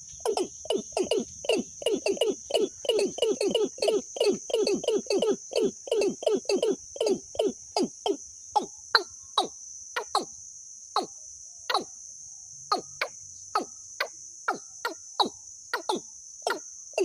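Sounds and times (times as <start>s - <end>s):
recorded bird call: 0.0s - 10.3s, 11.7s - 11.9s, 12.7s - 17.0s
high cricket-like trill: 0.0s - 17.0s.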